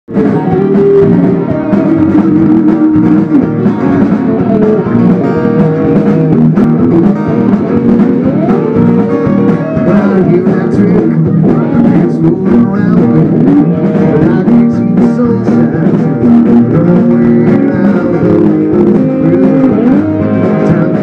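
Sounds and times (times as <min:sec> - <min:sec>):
bass guitar: 0:00.0 - 0:21.0
electric guitar: 0:00.1 - 0:21.0
strummed acoustic guitar: 0:00.1 - 0:21.0.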